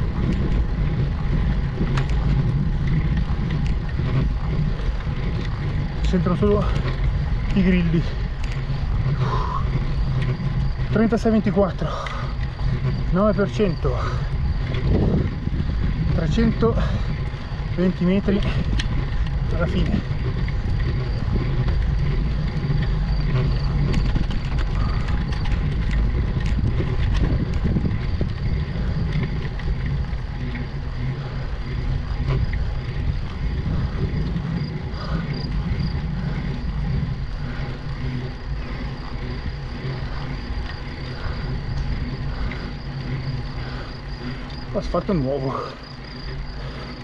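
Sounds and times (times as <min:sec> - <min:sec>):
crickets chirping: 0:00.0 - 0:47.0
low rumble of road bike: 0:00.0 - 0:47.0.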